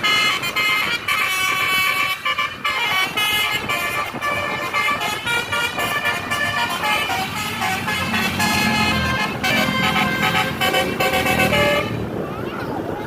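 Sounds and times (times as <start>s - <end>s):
multi-tone air horn tune: 0.0s - 12.1s.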